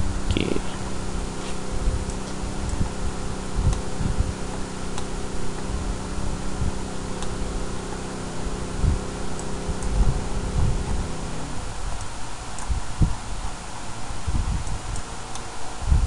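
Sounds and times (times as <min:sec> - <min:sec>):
mechanical fan hum: 0:00.0 - 0:16.0.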